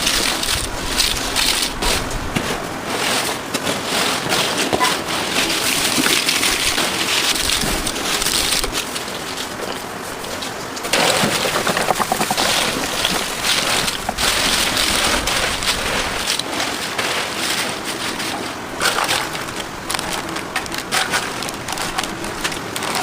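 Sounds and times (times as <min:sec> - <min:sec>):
fried food crackling: 0:00.0 - 0:23.0.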